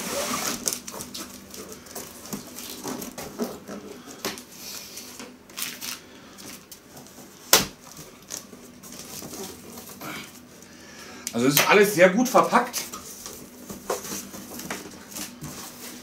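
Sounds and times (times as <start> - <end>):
cardboard and packaging rustling: 0.0 - 10.7, 12.4 - 16.0.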